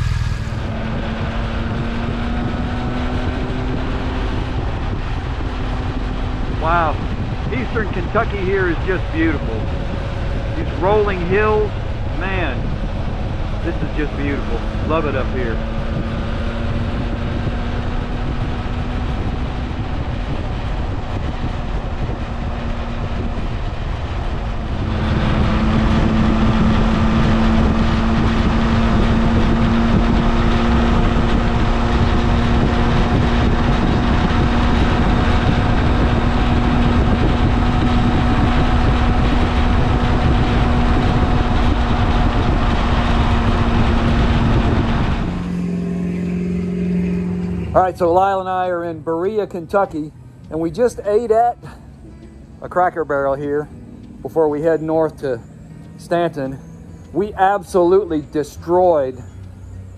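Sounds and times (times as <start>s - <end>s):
wind noise: 0.0s - 48.8s
motorcycle engine cruising: 0.0s - 59.9s
road noise: 0.0s - 59.9s.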